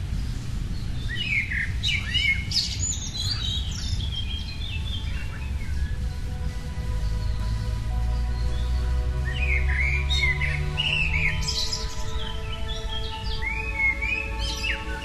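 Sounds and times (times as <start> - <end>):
songbird chirping and trilling: 0.0 - 15.0
steady low rumble: 0.0 - 15.0.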